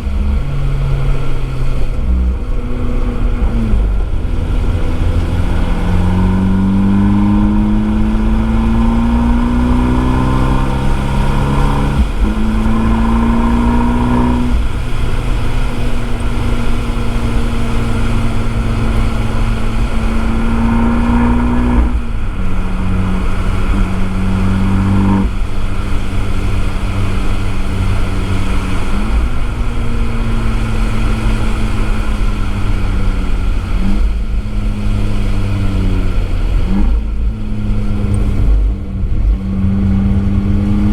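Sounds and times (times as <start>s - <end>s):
car engine at full throttle: 0.0s - 40.9s
road and wind noise: 0.0s - 40.9s.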